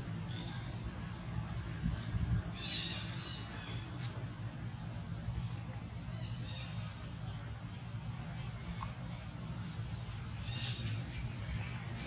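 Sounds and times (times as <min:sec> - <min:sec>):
leaves rustling: 0:00.0 - 0:12.0.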